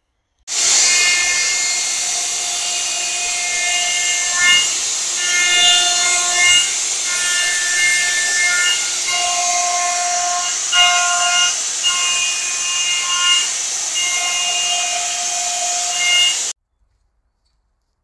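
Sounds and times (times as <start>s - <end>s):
router whining cutting wood: 0.5s - 16.6s.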